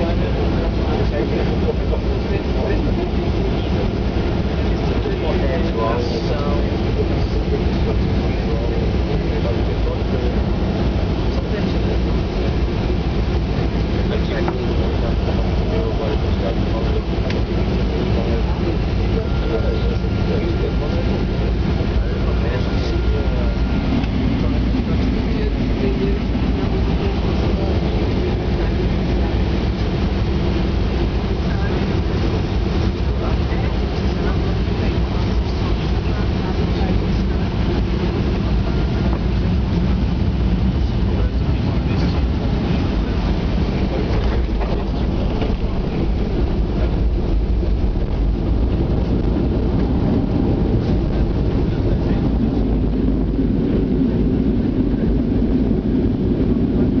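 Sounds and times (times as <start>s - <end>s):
passenger jet rumble: 0.0s - 57.0s.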